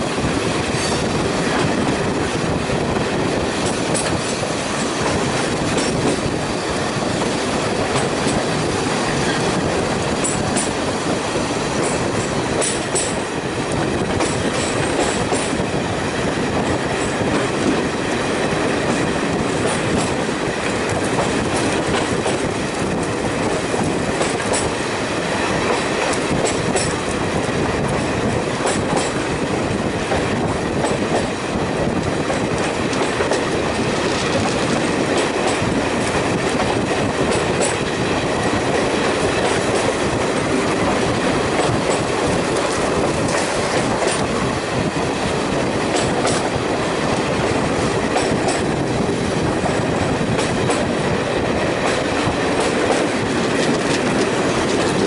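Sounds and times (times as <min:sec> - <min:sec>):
train engine and wheels rumbling: 0:00.0 - 0:55.0.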